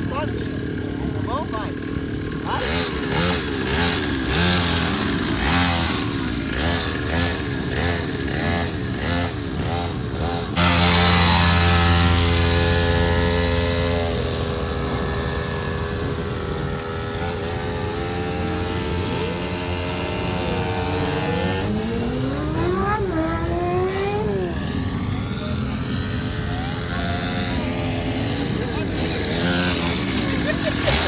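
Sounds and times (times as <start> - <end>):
motorcycle engines revving: 0.0 - 31.0.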